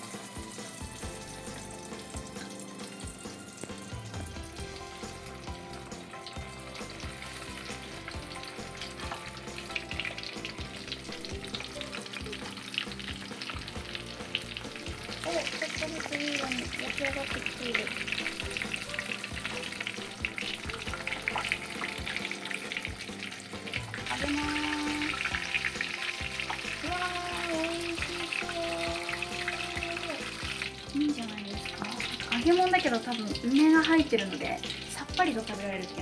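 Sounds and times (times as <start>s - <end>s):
food deep-frying in oil: 0.0s - 36.0s.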